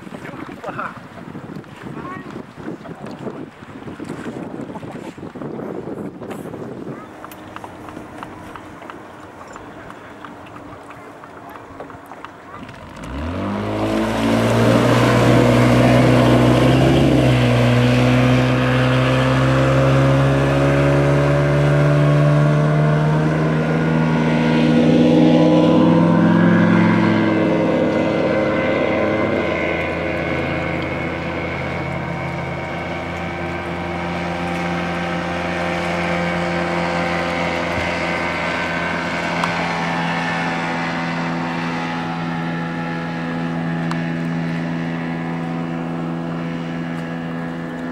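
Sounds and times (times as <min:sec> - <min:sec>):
motorboat engine revving: 0:00.0 - 0:47.9
water rushing past hull: 0:00.0 - 0:47.9.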